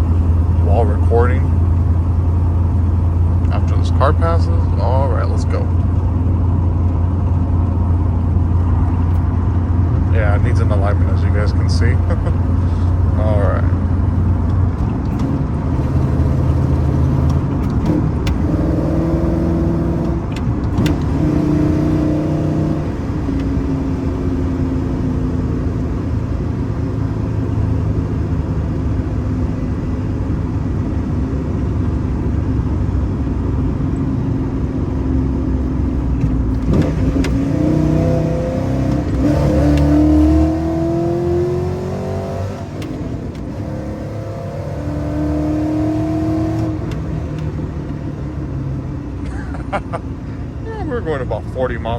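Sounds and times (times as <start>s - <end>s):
pickup truck engine through gears: 0.0s - 51.9s.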